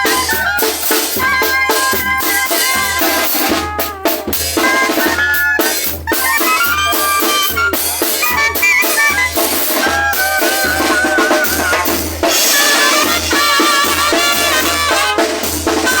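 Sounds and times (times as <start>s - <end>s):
bass drum beat: 0.0s - 16.0s
cymbals: 0.0s - 16.0s
horns playing melody: 0.0s - 16.0s.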